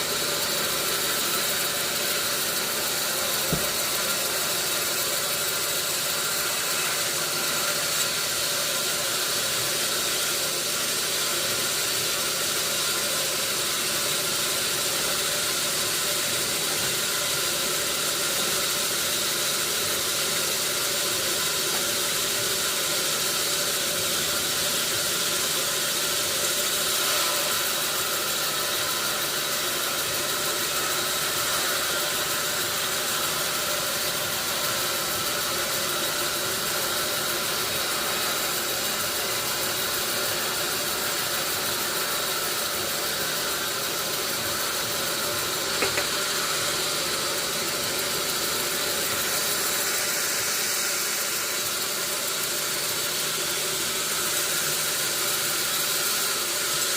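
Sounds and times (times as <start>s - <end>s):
hiss: 0.0s - 56.9s
machine running evenly: 0.0s - 56.9s.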